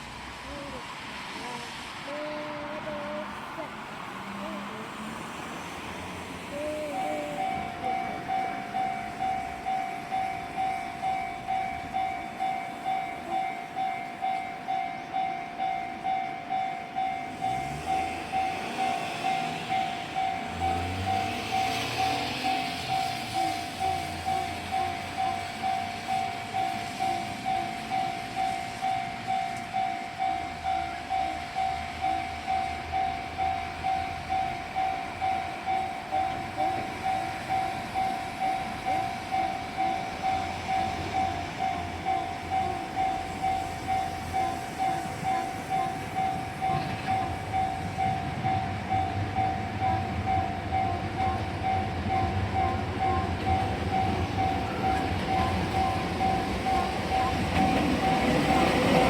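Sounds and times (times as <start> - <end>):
train rumble: 0.0 - 59.0
level-crossing signal ringing: 1.8 - 59.0.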